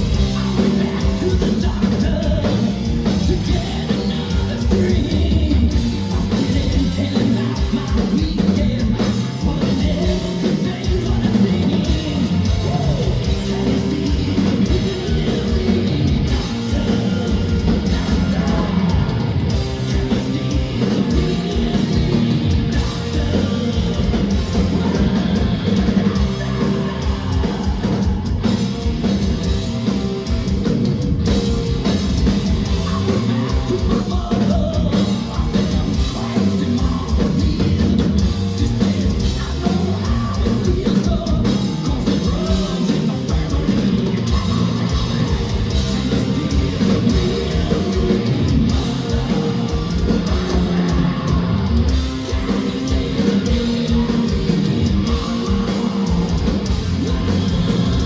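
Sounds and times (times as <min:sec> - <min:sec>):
person singing: 0:00.0 - 0:29.3, 0:32.6 - 0:58.0
distorted electric guitars: 0:00.0 - 0:58.0
heavy metal band playing: 0:00.0 - 0:58.0
pounding drum kit: 0:00.0 - 0:58.0.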